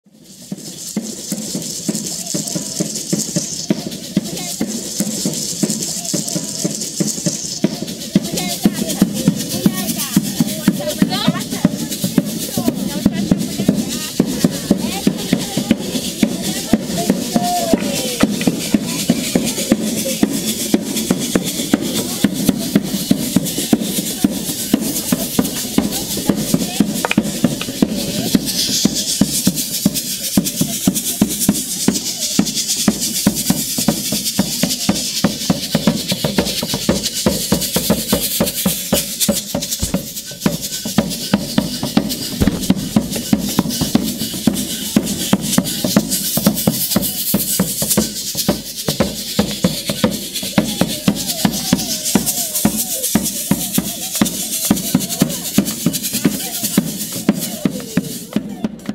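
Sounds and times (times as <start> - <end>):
drums: 0.0 - 58.9
shakers: 0.1 - 58.9.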